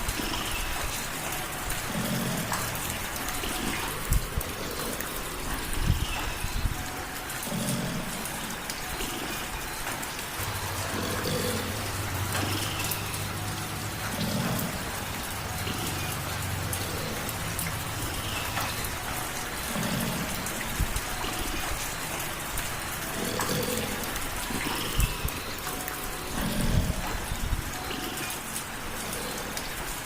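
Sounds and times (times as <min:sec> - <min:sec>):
light rain falling: 0:00.0 - 0:30.0.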